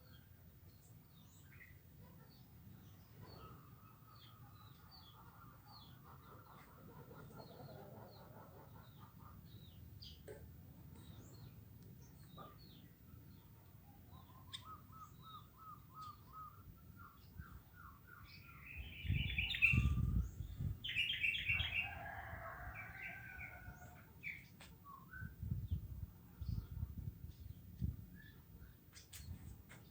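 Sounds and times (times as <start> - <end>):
birds chirping and chattering: 0.8 - 29.9.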